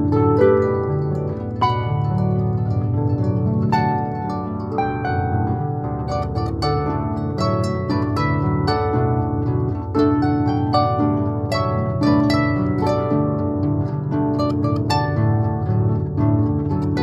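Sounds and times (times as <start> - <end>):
harp pop music: 0.0 - 17.0.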